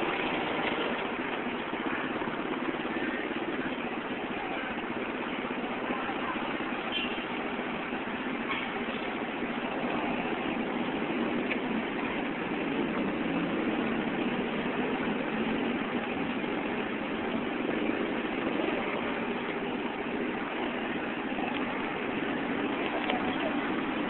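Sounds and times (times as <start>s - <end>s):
motorcycle engines idling: 0.0s - 24.0s.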